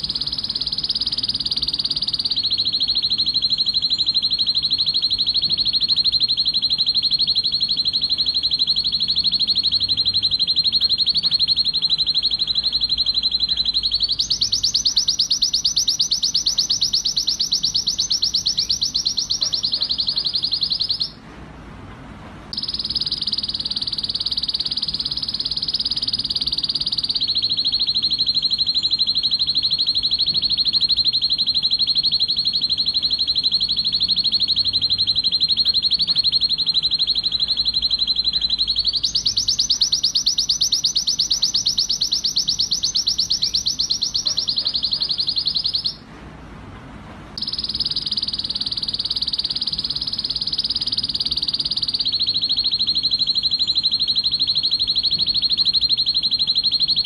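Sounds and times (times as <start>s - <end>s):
canary singing rapid trills: 0.0s - 21.2s, 22.6s - 46.0s, 47.4s - 57.0s.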